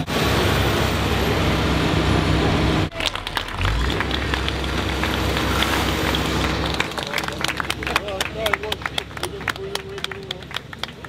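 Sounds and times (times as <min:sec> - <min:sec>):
demolition machine engine running: 0:00.0 - 0:11.0.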